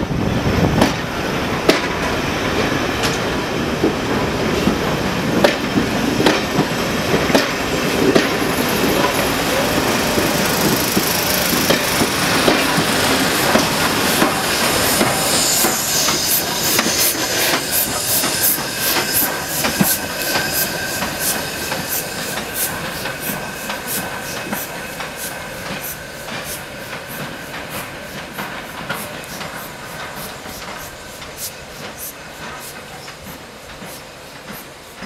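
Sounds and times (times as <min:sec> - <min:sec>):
steam locomotive passing: 0:00.0 - 0:35.0
train wheels clicking on rail joints: 0:00.5 - 0:35.0.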